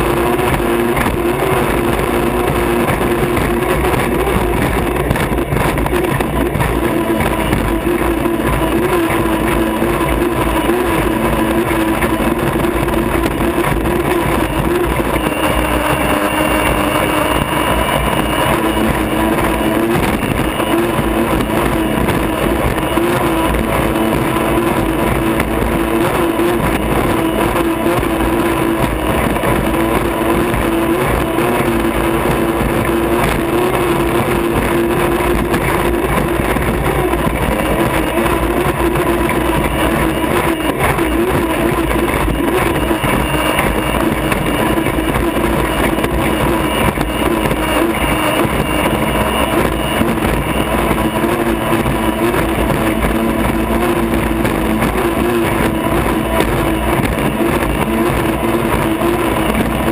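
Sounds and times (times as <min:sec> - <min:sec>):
turbine engine whine: 0:00.0 - 0:59.9
water and wind rushing against hull: 0:00.0 - 0:59.9.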